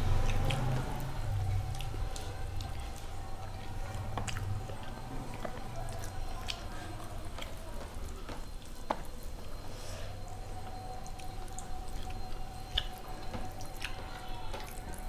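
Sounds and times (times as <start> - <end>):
wet squishy chewing: 0.0 - 15.0.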